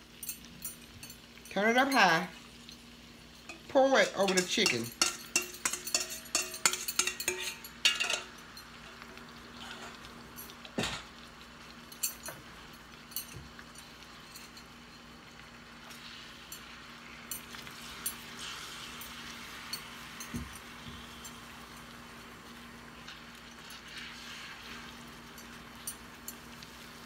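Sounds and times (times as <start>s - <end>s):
sauce sizzling in a frying pan: 0.0s - 27.0s
metal tongs clinking on pan: 0.1s - 21.9s, 23.0s - 26.8s.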